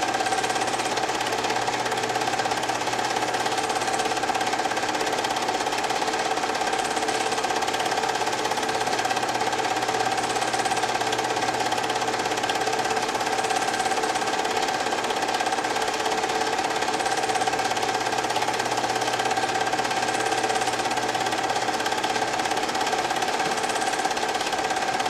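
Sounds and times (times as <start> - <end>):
constant mechanical whine: 0.0 - 25.0
film projector clattering: 0.0 - 25.0.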